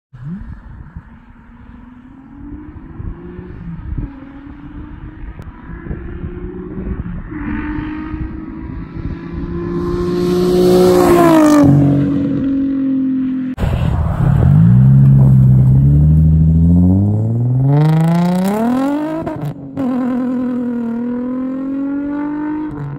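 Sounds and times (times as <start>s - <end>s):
car engine accelerating: 0.2s - 22.9s.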